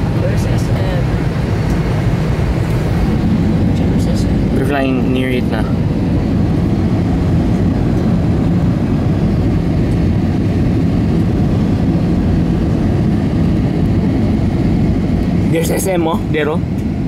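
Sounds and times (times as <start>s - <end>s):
airplane cabin roar: 0.0s - 17.0s
low hums: 0.0s - 17.0s.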